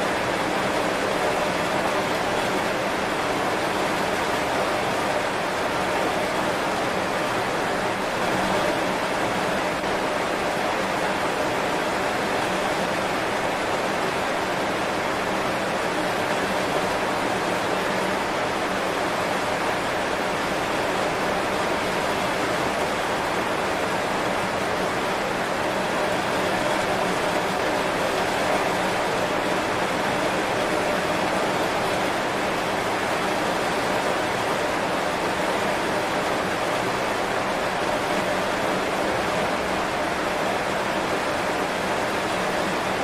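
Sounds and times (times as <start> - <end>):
heavy rain on leaves: 0.0 - 43.0.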